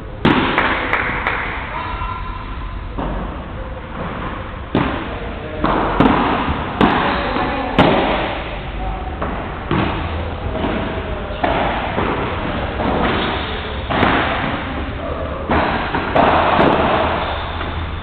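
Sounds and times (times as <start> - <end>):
padel racket hitting ball: 0.2 - 1.6, 2.9 - 18.0
ball rebounding off walls: 2.9 - 18.0.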